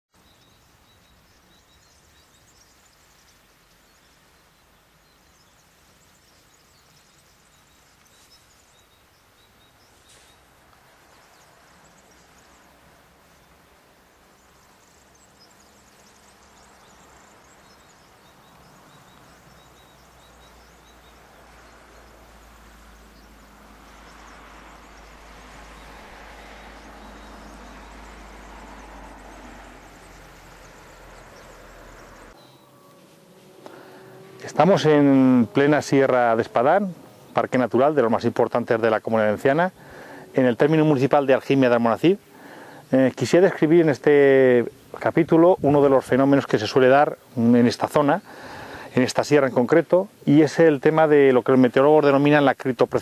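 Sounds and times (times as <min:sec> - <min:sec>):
bird chirps: 0:00.1 - 0:53.0
noisy hiss: 0:00.2 - 0:53.0.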